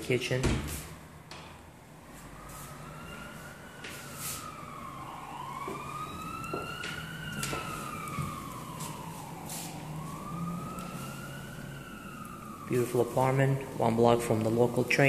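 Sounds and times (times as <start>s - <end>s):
emergency vehicle siren wailing: 1.9s - 15.0s.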